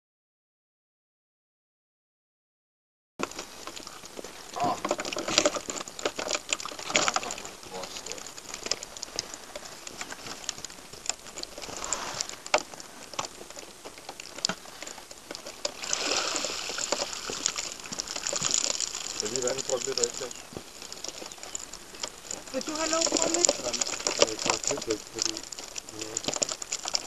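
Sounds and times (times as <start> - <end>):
water pouring and splashing: 3.2 - 27.0.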